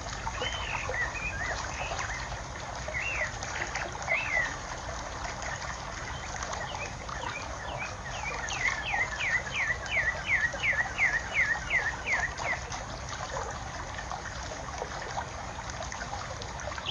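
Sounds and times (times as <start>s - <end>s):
trickling water: 0.0s - 16.9s.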